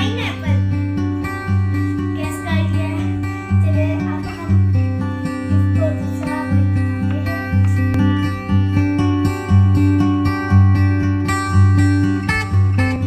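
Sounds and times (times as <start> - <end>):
plucked acoustic guitar music: 0.0 - 13.0.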